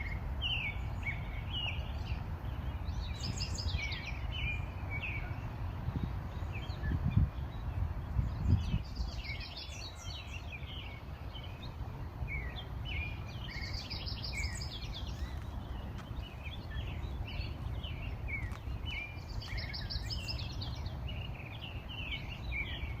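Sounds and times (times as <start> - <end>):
songbirds chirping and singing: 0.0 - 23.0.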